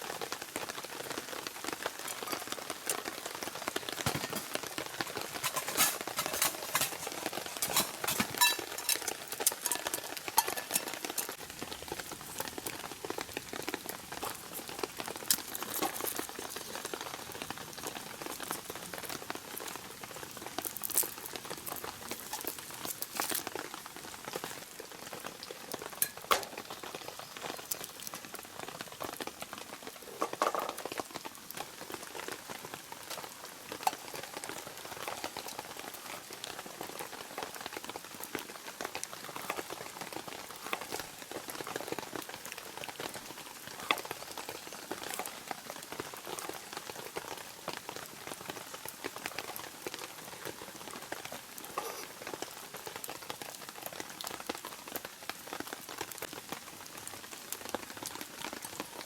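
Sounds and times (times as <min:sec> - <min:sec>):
rain pattering: 0:00.0 - 0:59.0
sharp raindrops tapping: 0:00.0 - 0:59.0.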